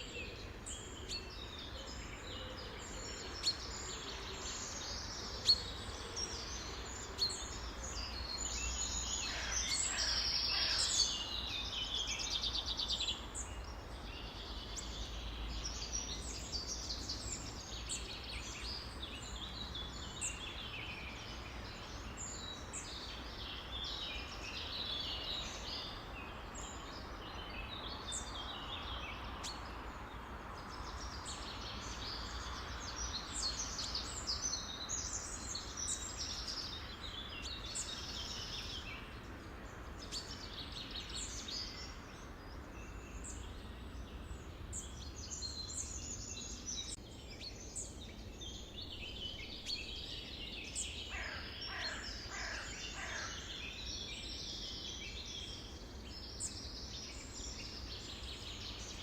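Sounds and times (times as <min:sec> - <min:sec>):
songbirds chirping: 0:00.0 - 0:59.0
steady background hiss: 0:00.0 - 0:59.0.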